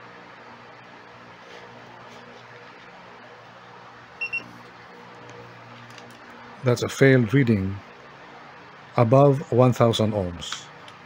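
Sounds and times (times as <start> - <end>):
low even hum: 0.0 - 11.0
steady background hiss: 0.0 - 11.0.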